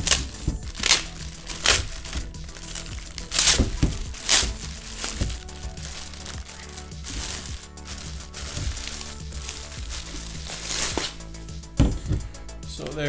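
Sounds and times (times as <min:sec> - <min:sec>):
plastic packaging crinkling: 0:00.0 - 0:12.2
background music: 0:00.0 - 0:13.0.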